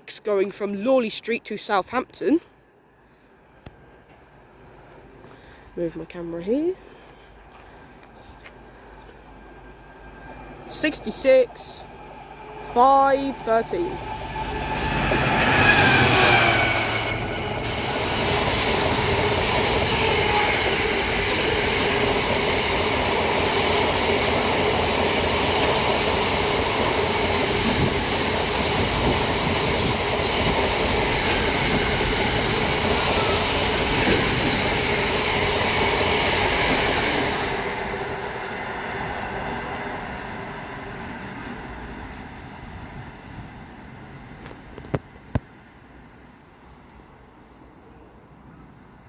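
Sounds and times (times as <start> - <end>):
diesel locomotive passing: 3.4 - 49.0
train wheels rumbling on rail: 3.5 - 45.6.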